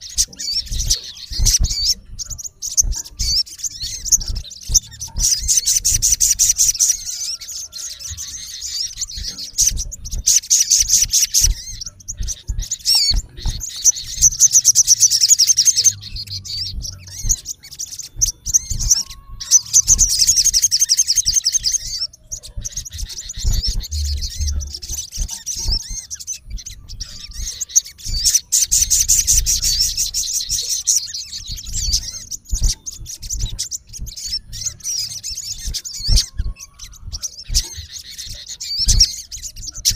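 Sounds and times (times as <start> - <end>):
sunbird calling: 0.0 - 39.9.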